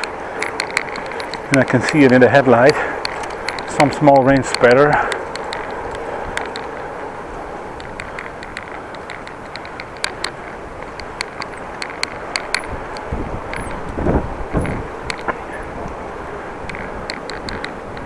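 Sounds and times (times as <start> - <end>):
bicycle tyres hissing: 0.0 - 18.0
sharp ticks: 0.0 - 18.0
wind on microphone: 0.0 - 18.0.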